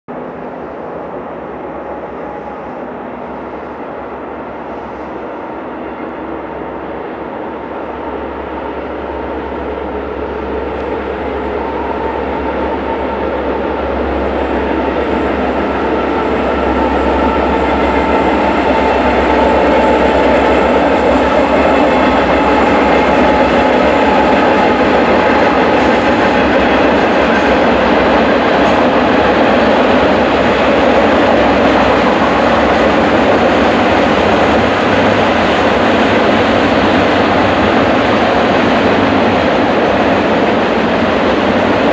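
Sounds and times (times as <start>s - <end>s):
diesel locomotive engine drone: 0.1s - 41.9s
flatcars rumbling on rails: 0.1s - 41.9s.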